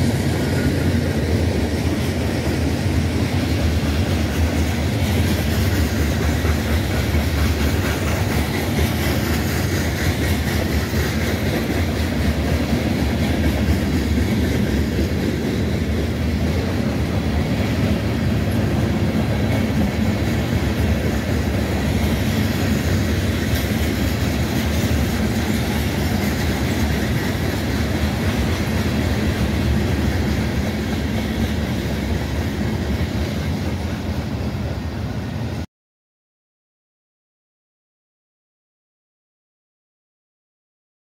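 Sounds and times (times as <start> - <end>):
clatter over rail joints: 0.0 - 33.8
train wheels on rails: 0.0 - 35.7.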